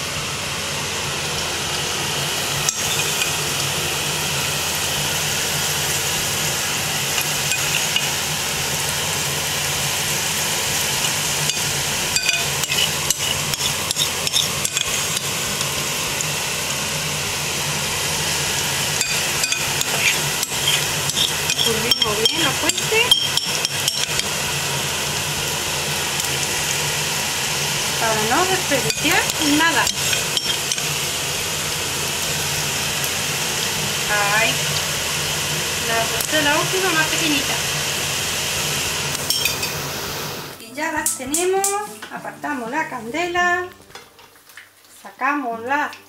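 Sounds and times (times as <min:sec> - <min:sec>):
batter sizzling in hot oil: 0:00.0 - 0:43.0.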